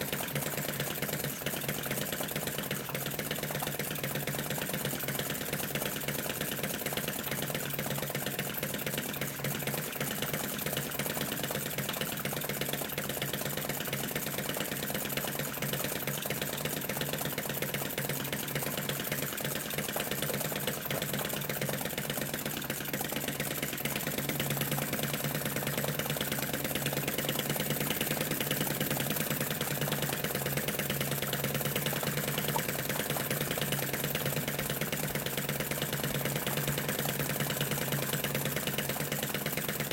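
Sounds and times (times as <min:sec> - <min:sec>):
model engine ticking clatter: 0:00.0 - 0:39.9.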